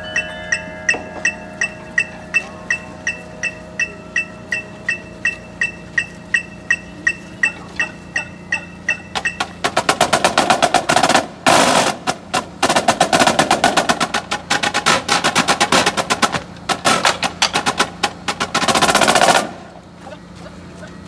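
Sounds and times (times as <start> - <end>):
marching drumline: 0.0 - 19.7.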